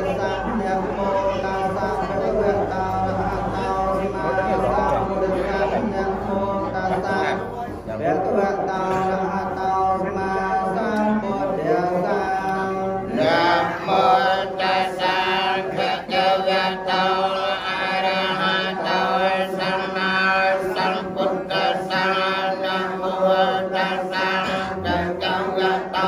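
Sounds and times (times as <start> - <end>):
monks chanting: 0.0 - 26.0.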